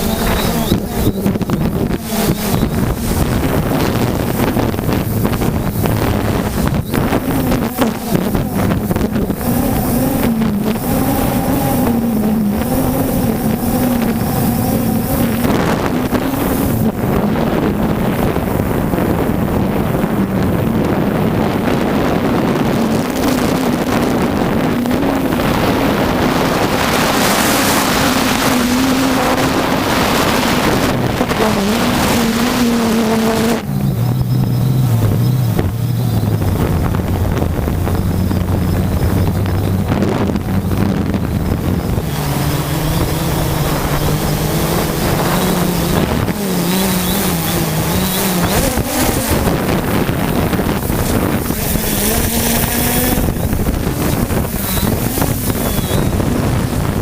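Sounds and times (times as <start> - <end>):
drone propellers humming: 0.0 - 57.0
wind buffeting microphone: 0.0 - 57.0.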